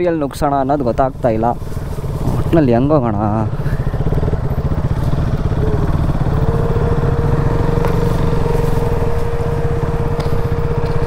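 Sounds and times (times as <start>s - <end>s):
motorcycle engine running: 0.0s - 11.0s
steady whine: 0.0s - 11.0s.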